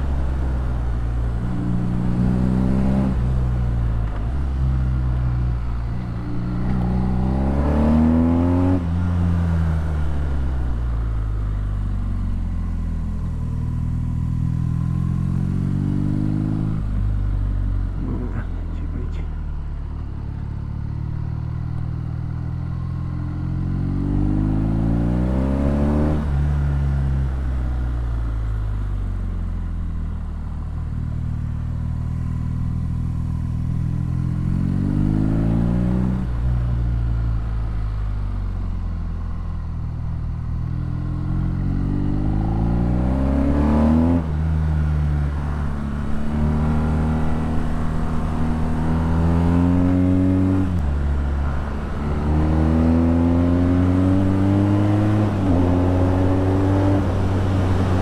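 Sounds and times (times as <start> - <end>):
motorcycle engine accelerating hard: 1.3 - 10.9, 11.9 - 19.2, 20.0 - 27.6, 30.5 - 58.0.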